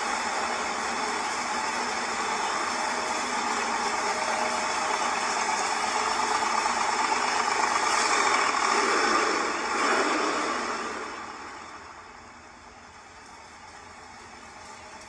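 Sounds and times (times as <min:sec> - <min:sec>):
v eight engine running: 0:00.0 - 0:15.0.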